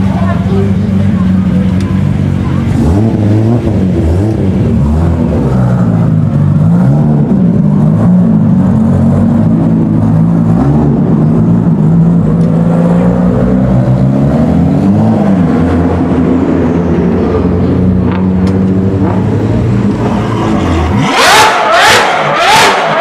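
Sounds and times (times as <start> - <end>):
car engines revving in a tunnel: 0.0 - 23.0.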